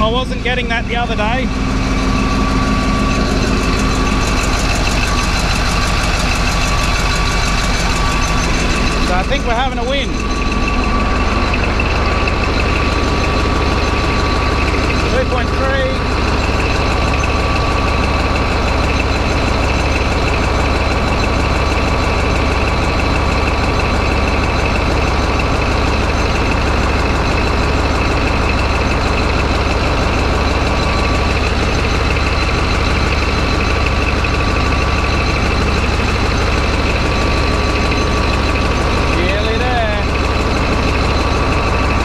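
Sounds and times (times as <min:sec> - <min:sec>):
bulldozer diesel engine idling: 0:00.0 - 0:42.0
steady high whine: 0:00.0 - 0:42.0.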